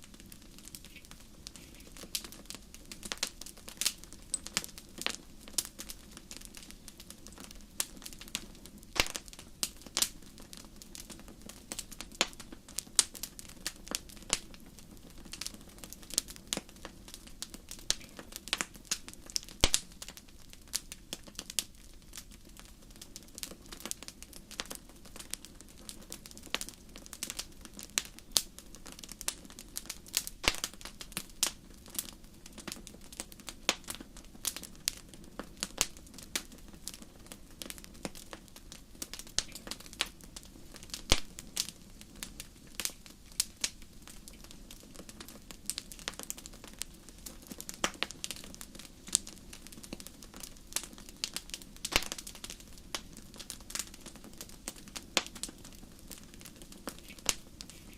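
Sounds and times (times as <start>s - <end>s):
fire crackling: 0.0s - 57.9s.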